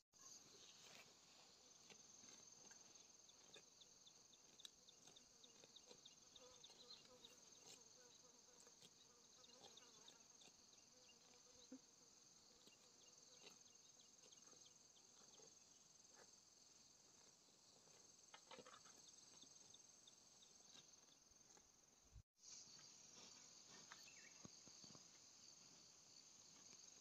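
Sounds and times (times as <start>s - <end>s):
insect chirps: 0.2s - 27.0s.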